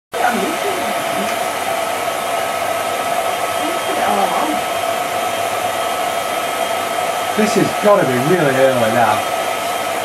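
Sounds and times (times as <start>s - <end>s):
film projector whirring: 0.2s - 10.0s.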